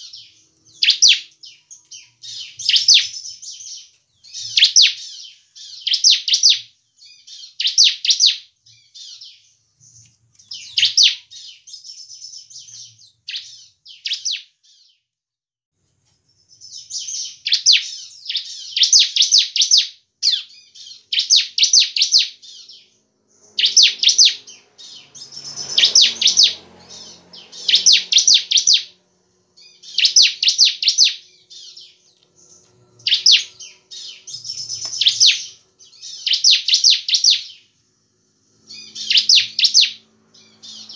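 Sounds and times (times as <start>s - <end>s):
bird singing high chirps: 0.0s - 15.0s, 16.2s - 40.9s.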